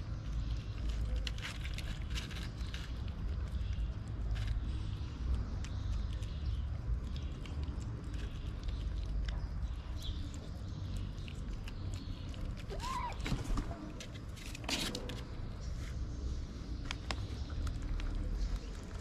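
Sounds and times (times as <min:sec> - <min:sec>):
cats chewing wet food: 0:00.0 - 0:19.0
low background rumble: 0:00.0 - 0:19.0.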